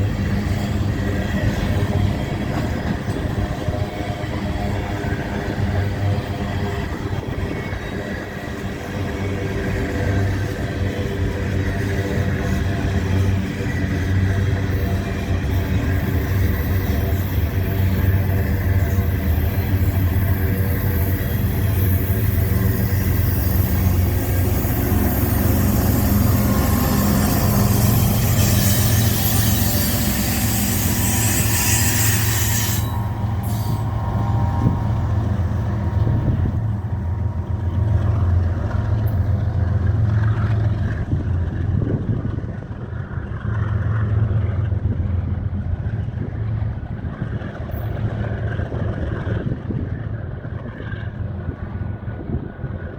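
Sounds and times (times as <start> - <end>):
freight cars rumbling on rails: 0.0 - 52.9.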